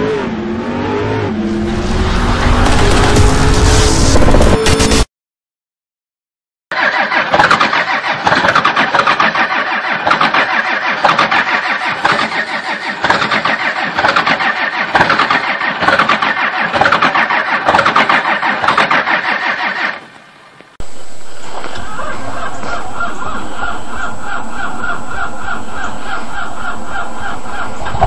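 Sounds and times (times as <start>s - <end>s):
engine starting and running rough: 1.6s - 5.1s, 6.7s - 20.0s, 20.8s - 28.0s.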